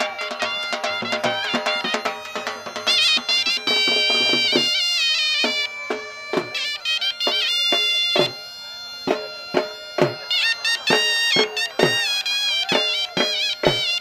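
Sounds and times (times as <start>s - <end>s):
wind instrument long held notes: 0.0s - 14.0s.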